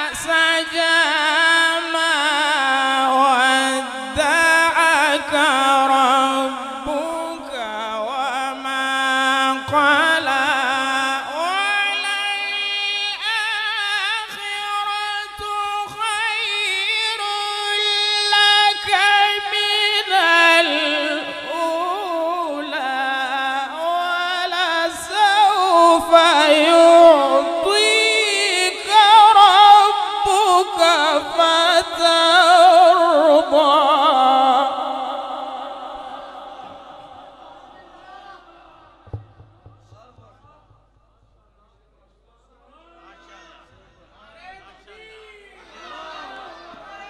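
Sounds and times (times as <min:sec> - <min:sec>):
man reciting melodically: 0:00.0 - 0:45.6.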